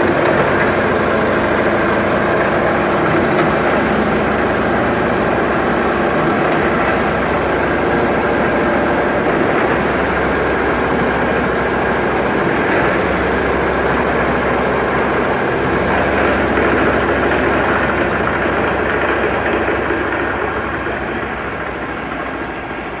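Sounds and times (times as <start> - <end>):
milling machine running: 0.0 - 23.0.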